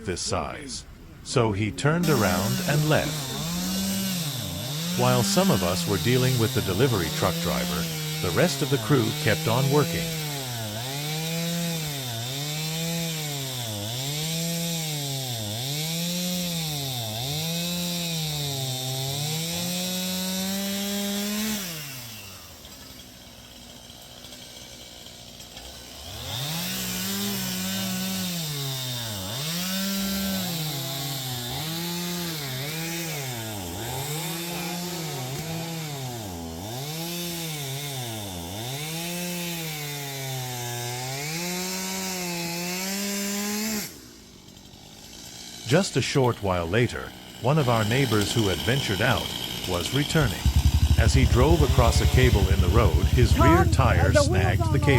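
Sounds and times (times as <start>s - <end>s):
chainsaw cutting a log: 1.8s - 54.9s.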